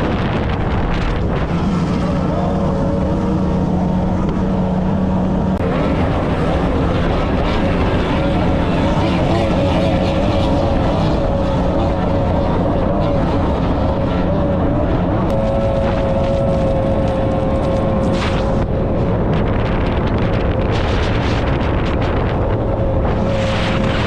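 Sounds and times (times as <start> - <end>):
outboard motor running at speed: 0.0 - 24.0
wind and water rush: 0.0 - 24.0.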